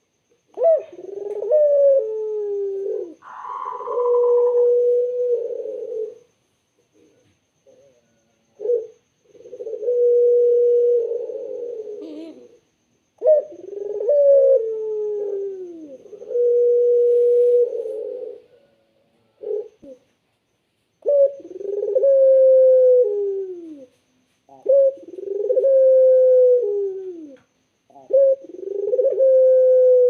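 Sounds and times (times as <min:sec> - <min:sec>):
dove cooing: 0:00.0 - 0:06.3, 0:07.6 - 0:20.1, 0:21.0 - 0:30.0.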